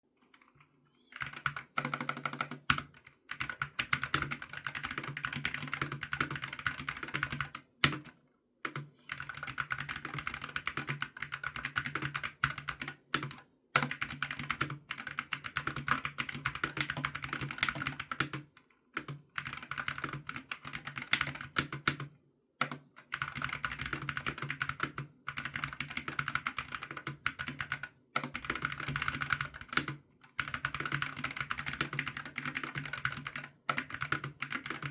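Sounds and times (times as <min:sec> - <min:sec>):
mechanical keyboard typing: 0:01.1 - 0:34.9.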